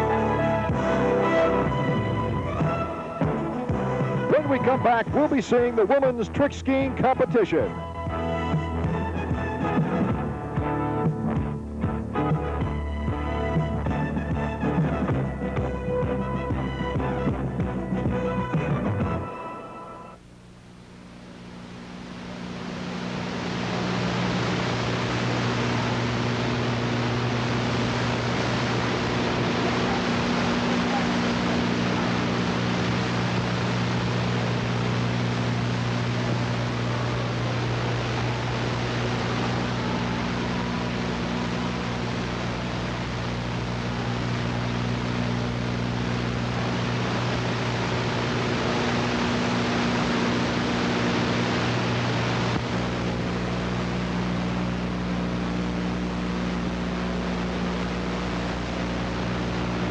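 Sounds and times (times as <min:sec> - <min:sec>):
steady hiss: 0:00.0 - 0:18.9, 0:19.6 - 0:59.9
low electrical hum: 0:00.0 - 0:59.9.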